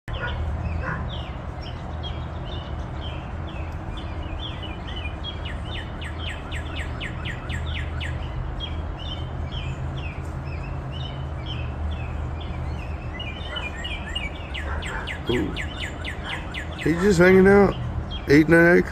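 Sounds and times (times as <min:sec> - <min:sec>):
songbirds chirping: 0:00.1 - 0:18.9.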